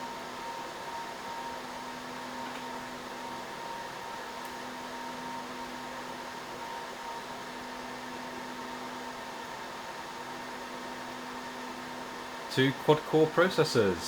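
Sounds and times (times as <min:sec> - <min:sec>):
fan hum tones: 0:00.0 - 0:14.0
server cooling fans running: 0:00.0 - 0:14.0.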